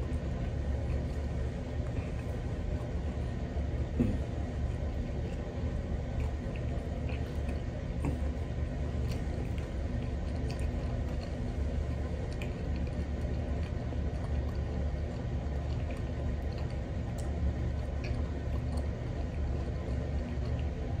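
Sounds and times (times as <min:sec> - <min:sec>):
chewing with wet smacks: 0:00.0 - 0:21.0
steady low hum: 0:00.0 - 0:21.0.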